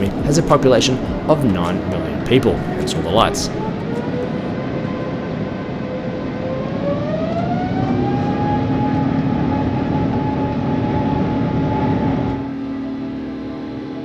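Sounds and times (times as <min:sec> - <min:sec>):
jet engine whine: 0:00.0 - 0:14.0
takeoff roar in cabin: 0:00.0 - 0:14.0.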